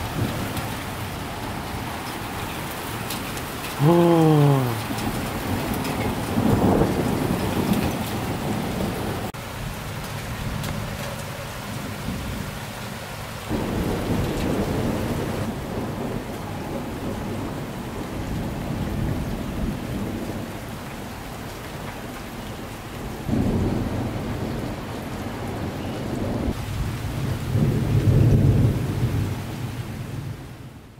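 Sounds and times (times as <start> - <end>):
rolling thunder rumbles: 0.0 - 3.8, 4.4 - 11.2, 13.5 - 21.8, 23.0 - 30.8
rain hissing: 0.0 - 25.5.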